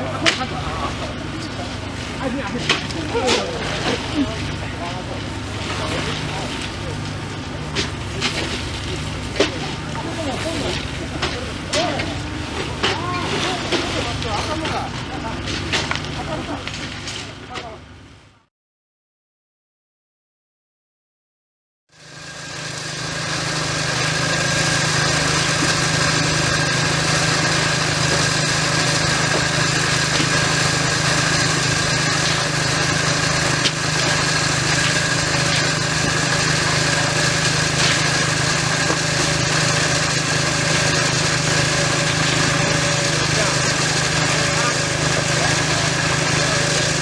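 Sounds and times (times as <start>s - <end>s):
petrol engine power tool running: 0.0s - 18.4s, 21.9s - 47.0s.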